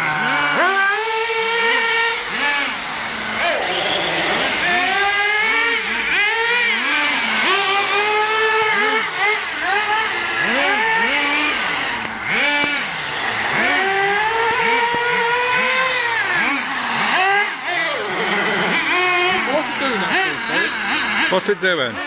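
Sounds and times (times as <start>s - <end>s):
toy car motor revving: 0.0s - 22.0s.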